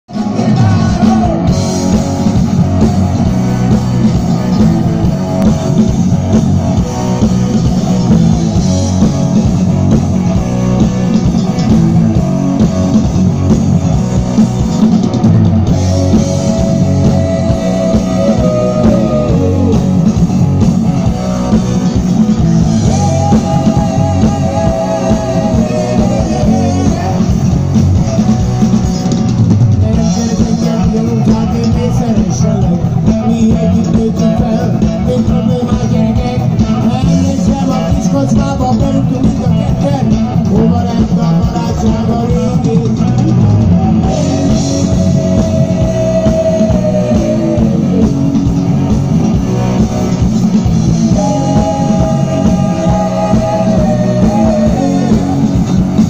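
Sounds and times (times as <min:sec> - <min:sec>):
sung vocals: 0:00.0 - 0:14.4, 0:15.7 - 0:56.0
electric guitars: 0:00.0 - 0:56.0
live rock band: 0:00.0 - 0:56.0
drum kit: 0:00.1 - 0:56.0.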